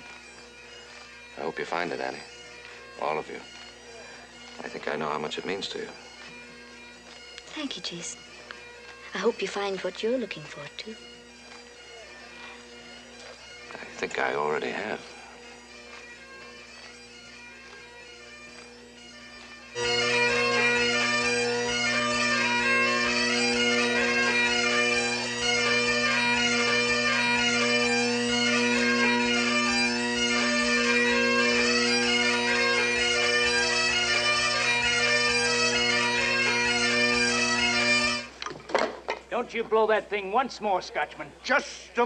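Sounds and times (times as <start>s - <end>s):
bagpipes playing a tune: 0.0s - 42.0s.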